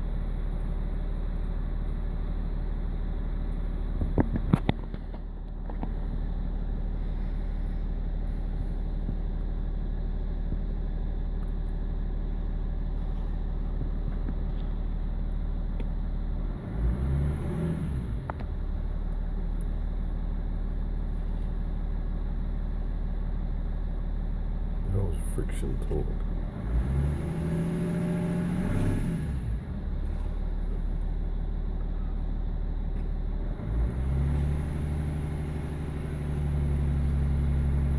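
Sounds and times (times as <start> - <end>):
diesel engine rough idle: 0.0 - 37.9.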